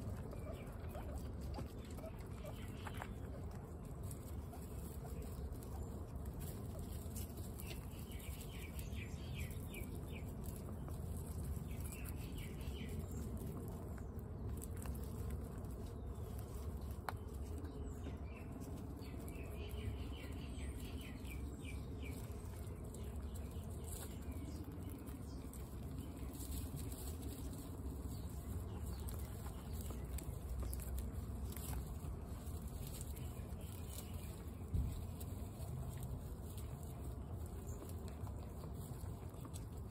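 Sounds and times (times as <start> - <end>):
guinea pigs crunching pellets: 0.0 - 39.9.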